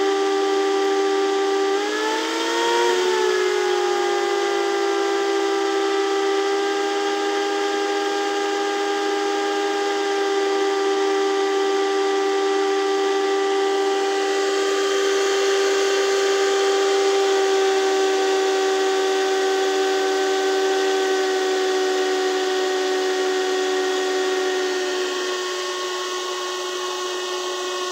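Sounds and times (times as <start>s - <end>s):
cooling fans whining: 0.0s - 27.9s.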